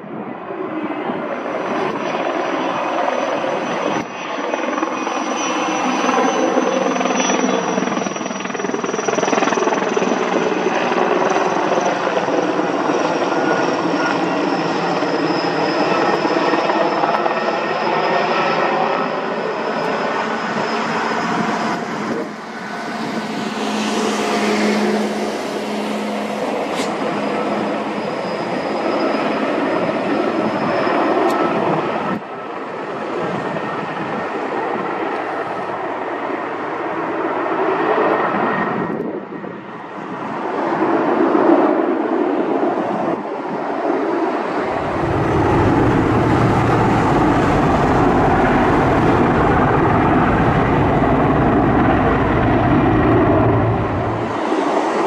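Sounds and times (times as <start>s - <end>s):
helicopter engines and rotors: 0.0s - 55.0s
high turbine whine: 0.0s - 55.0s.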